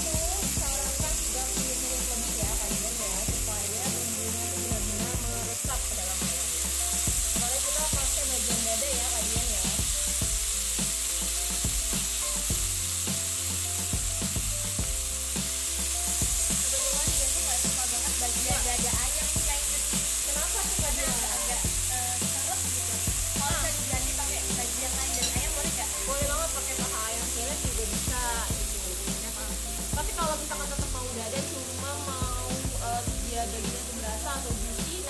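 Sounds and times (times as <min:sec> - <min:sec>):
chicken sizzling in frying pan: 0:00.0 - 0:35.0.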